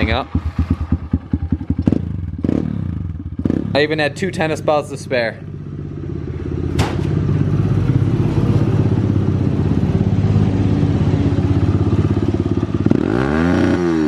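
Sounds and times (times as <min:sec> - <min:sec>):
motorbike engine idling: 0:00.0 - 0:13.1
engine revving: 0:00.0 - 0:14.0.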